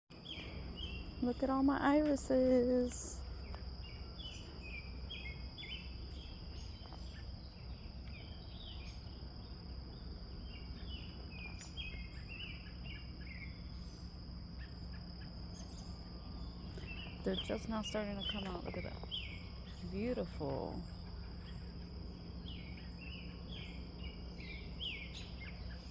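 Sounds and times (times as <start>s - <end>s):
bird chirps: 0.2s - 9.2s, 9.9s - 25.9s
high-pitched insect trill: 0.2s - 25.9s.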